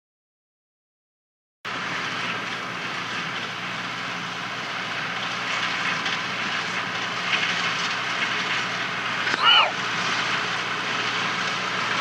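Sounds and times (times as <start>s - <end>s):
tractor diesel engine running: 1.7s - 12.0s.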